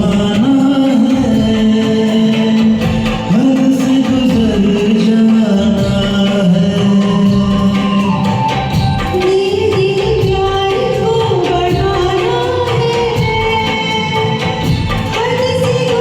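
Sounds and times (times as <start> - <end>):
person singing karaoke melody: 0.0 - 16.0.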